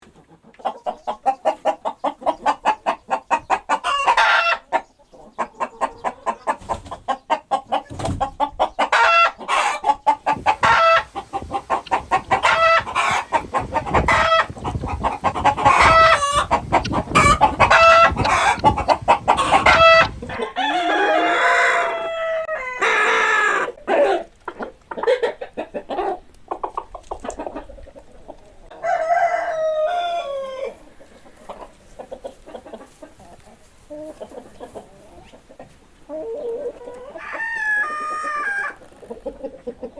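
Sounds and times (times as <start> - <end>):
hens clucking and squawking: 0.0 - 39.9
wavering hen calls: 0.1 - 39.9.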